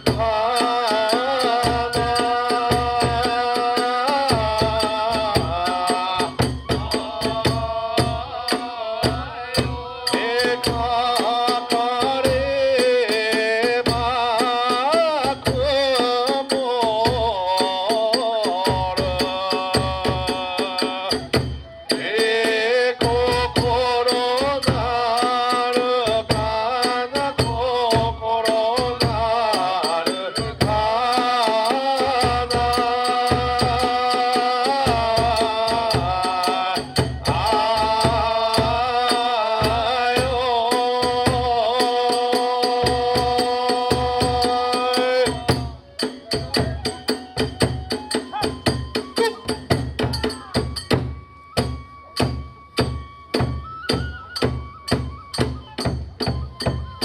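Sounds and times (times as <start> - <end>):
wavering flute melody: 0.0 - 12.0, 18.2 - 57.0
big drum beats: 0.0 - 57.0
hand cymbals and small drum clattering: 0.0 - 57.0.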